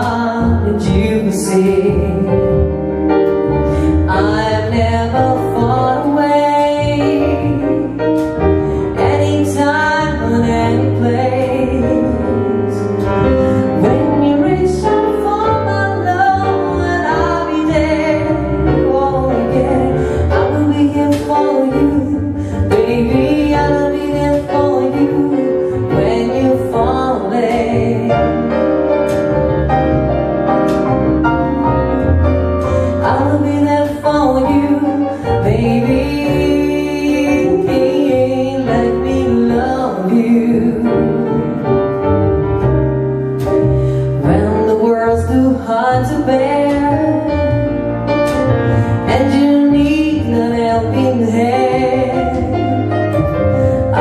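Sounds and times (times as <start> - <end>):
woman singing: 0.0 - 3.0, 3.9 - 29.3, 30.7 - 42.0, 44.0 - 54.0
double bass: 0.0 - 54.0
grand piano: 0.0 - 54.0.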